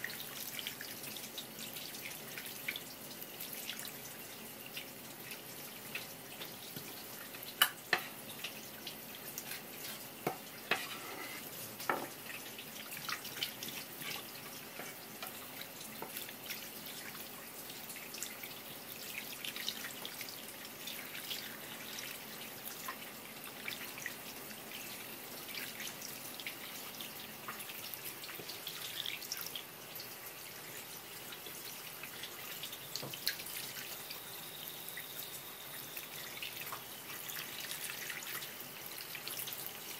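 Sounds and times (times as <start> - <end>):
tap water running and splashing: 0.0 - 39.9.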